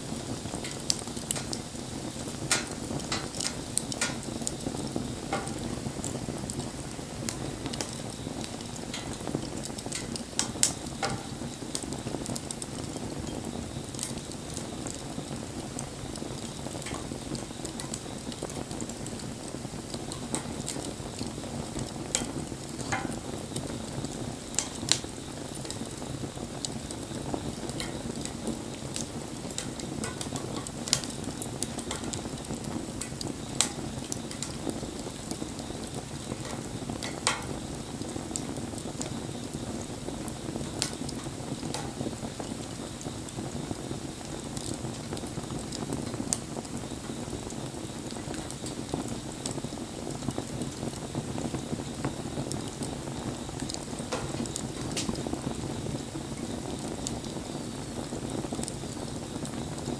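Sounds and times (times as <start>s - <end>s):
fire crackles and pops: 0.0s - 59.9s
low rush of flame: 0.0s - 59.9s.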